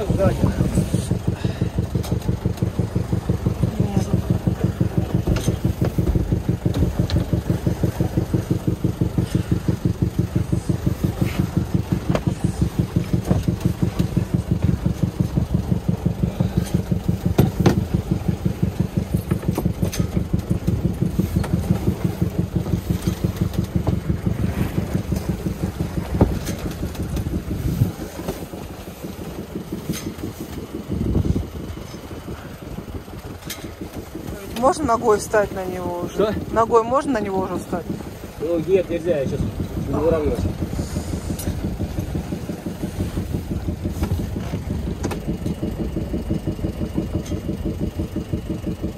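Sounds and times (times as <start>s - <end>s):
boat engine chugging: 0.0s - 48.9s.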